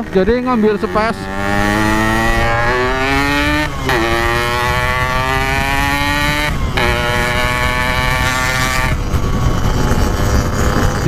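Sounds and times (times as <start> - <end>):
motorcycle engine revving: 0.0 - 11.0
wind and road rumble: 0.0 - 11.0.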